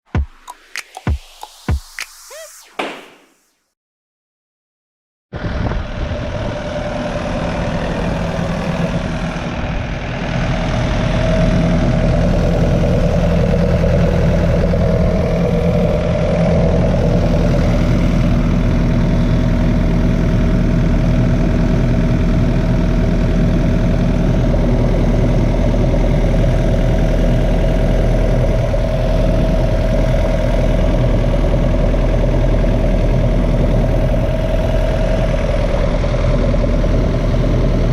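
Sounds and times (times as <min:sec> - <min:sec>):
diesel engine running: 0:05.4 - 0:37.9.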